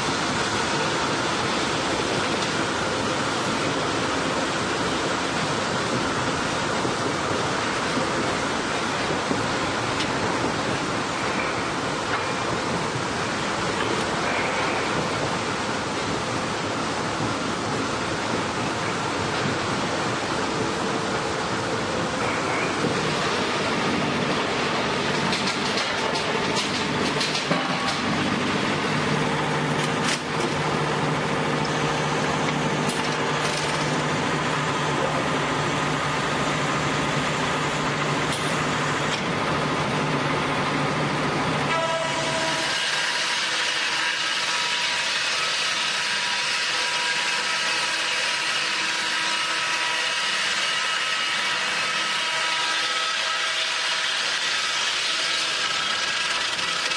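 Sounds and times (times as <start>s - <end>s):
high machine whine: 0.0s - 56.9s
sawmill machinery running: 0.0s - 56.9s.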